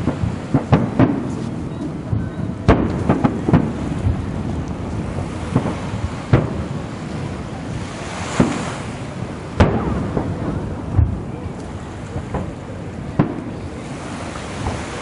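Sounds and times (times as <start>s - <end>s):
firework shells booming: 0.0s - 15.0s
steady background hiss: 0.0s - 15.0s.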